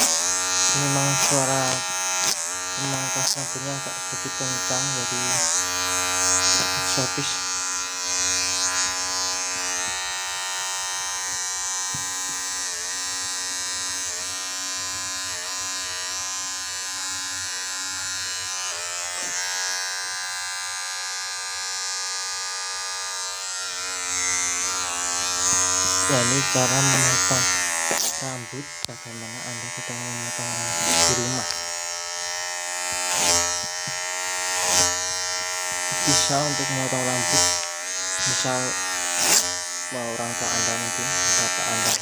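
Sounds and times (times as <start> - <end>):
electric hair clipper buzzing: 0.0 - 42.0.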